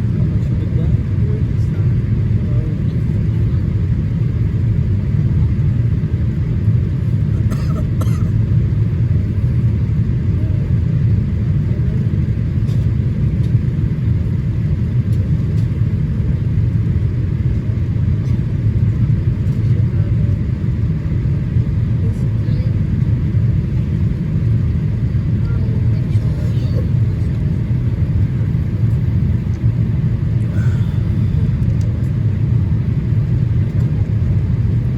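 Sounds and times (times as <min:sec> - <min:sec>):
airplane cabin engine rumble: 0:00.0 - 0:34.9.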